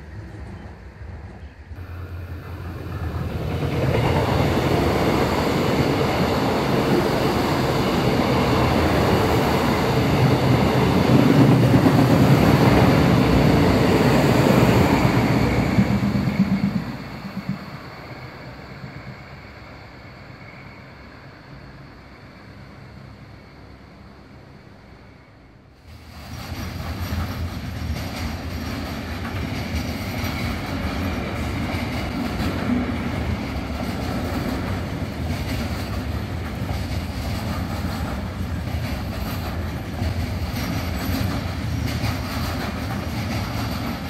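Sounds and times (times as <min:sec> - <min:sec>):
diesel train passing: 0:00.0 - 0:44.0.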